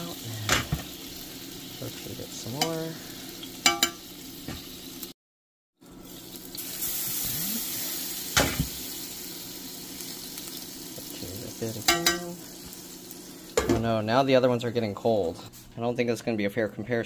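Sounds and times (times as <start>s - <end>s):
water simmering and sizzling: 0.0s - 5.2s, 5.8s - 15.6s.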